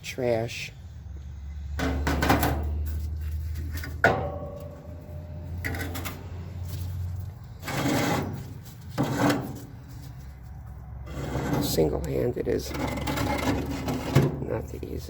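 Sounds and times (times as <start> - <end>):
metal bars scraping and rattling: 1.8 - 10.4, 11.0 - 14.8.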